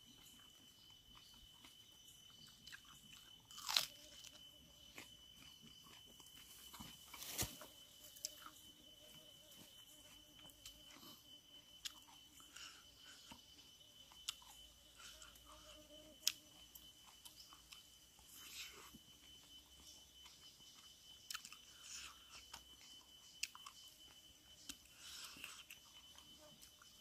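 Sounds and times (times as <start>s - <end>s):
faint chewing: 0.1s - 27.0s.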